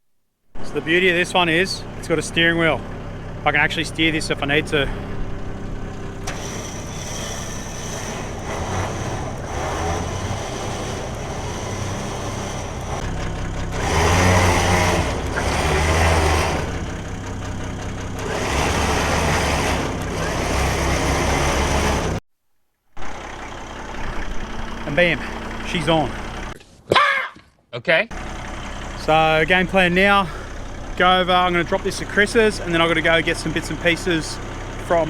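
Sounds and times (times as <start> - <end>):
truck engine revving: 0.6 - 22.2, 23.0 - 26.6, 28.1 - 35.0.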